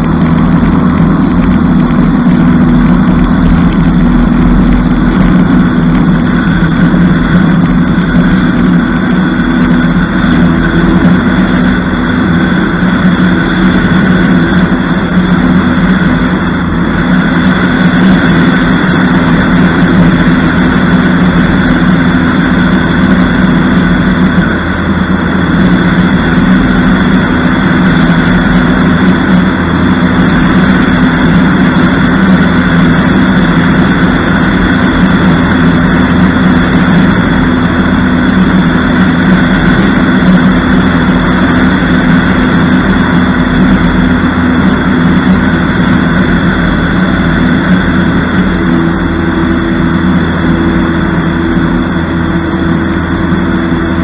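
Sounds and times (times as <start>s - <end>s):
propeller plane engine running: 0.0s - 54.0s.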